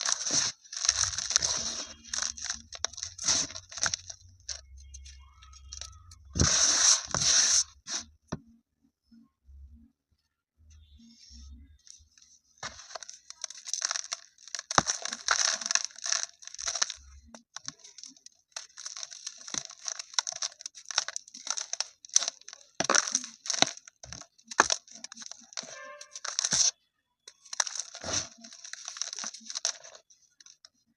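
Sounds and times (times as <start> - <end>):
cement chunks crunching: 0.0 - 8.1, 12.0 - 30.8.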